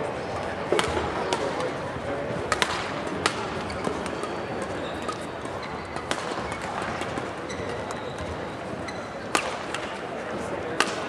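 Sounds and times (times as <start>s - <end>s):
murmur of crowd voices: 0.0s - 11.0s
rackets hitting shuttlecock: 0.4s - 1.8s, 2.4s - 11.0s.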